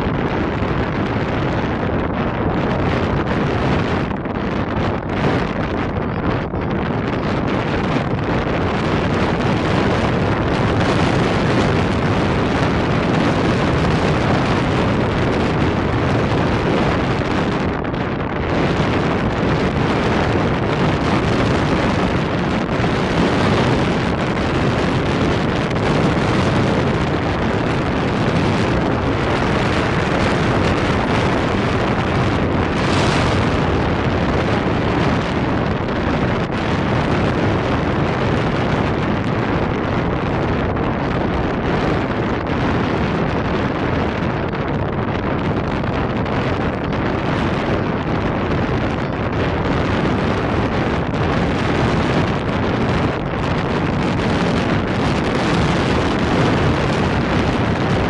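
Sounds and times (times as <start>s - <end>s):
wind blowing across microphone: 0.0s - 58.0s.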